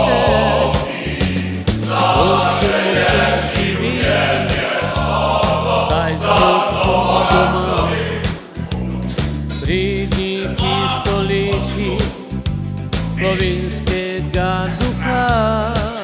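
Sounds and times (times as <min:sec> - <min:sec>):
male vocal group singing: 0:00.0 - 0:08.8, 0:09.5 - 0:16.0
low steady accompaniment: 0:00.0 - 0:15.7.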